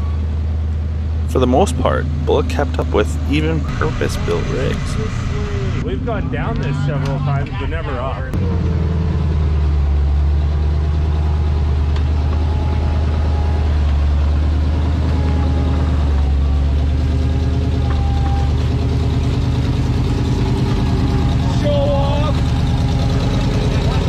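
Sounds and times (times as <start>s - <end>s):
truck engine under load: 0.0s - 24.0s.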